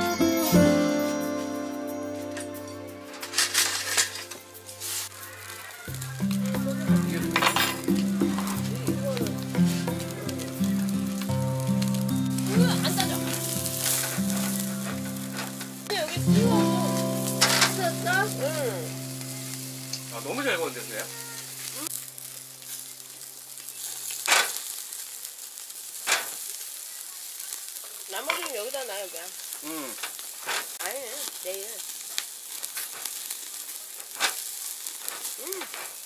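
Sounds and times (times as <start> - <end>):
ribs sizzling on grill: 0.0 - 36.0.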